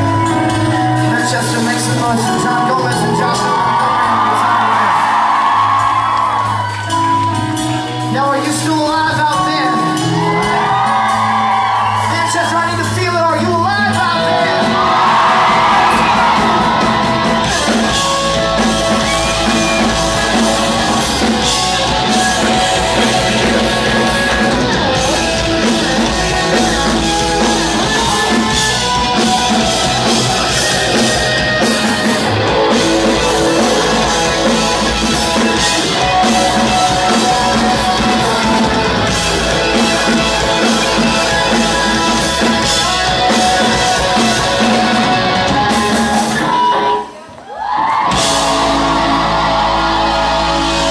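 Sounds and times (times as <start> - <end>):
bass guitar: 0.0 - 50.9
drum kit: 0.0 - 50.9
electric guitars: 0.0 - 50.9.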